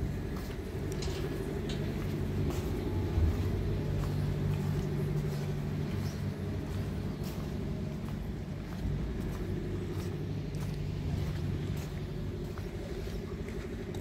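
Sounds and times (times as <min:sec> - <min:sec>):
ship machinery humming: 0:00.0 - 0:14.0.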